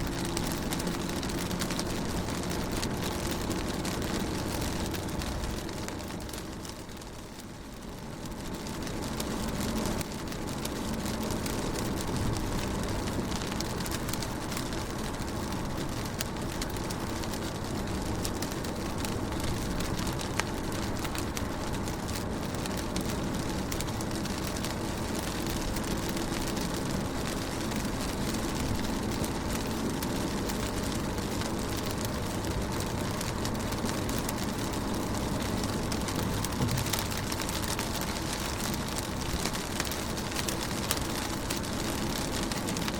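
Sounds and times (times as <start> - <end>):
rain on car window: 0.0 - 42.9
raindrops ticking on glass: 0.1 - 42.9.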